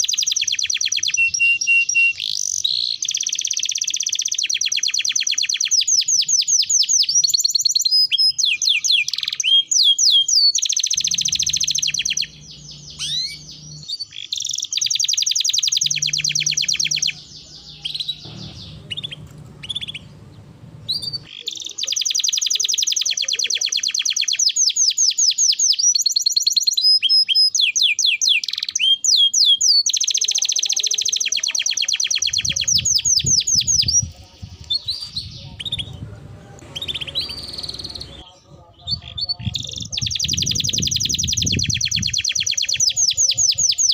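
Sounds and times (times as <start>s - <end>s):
canary singing fast trills: 0.0s - 43.9s.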